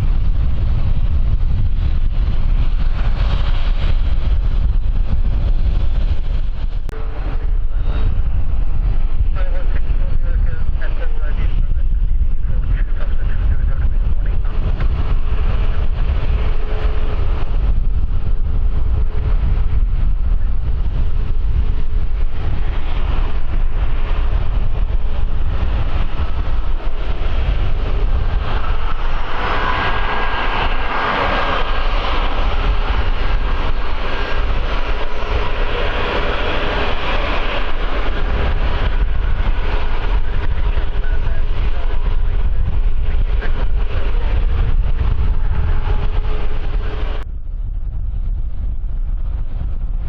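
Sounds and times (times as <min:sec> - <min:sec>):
aircraft engine whine: 0:00.0 - 0:50.0
wind buffeting microphone: 0:00.0 - 0:50.0.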